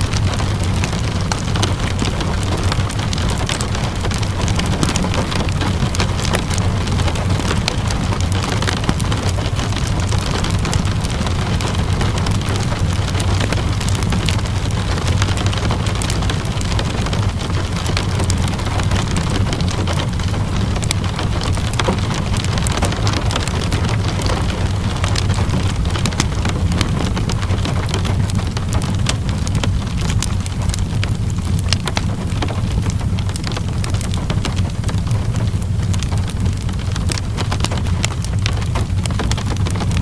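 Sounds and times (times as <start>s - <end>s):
continuous low rumble: 0.0s - 40.0s
steady rain falling: 0.0s - 40.0s
wood fire crackling: 0.0s - 40.0s.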